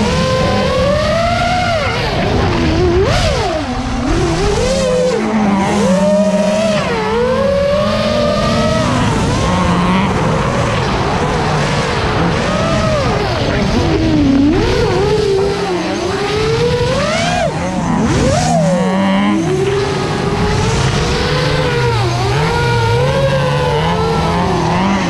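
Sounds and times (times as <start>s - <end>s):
quadcopter motors whining: 0.0s - 11.5s, 12.1s - 25.0s
car engine driven hard: 0.0s - 25.0s.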